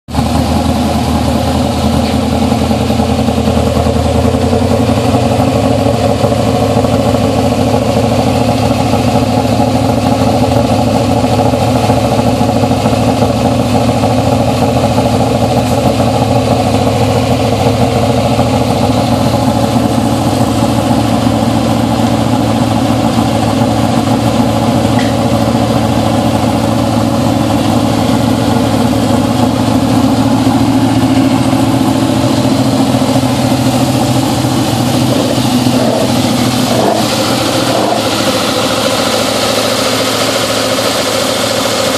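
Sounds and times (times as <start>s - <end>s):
race car engine idling: 0.1s - 41.9s.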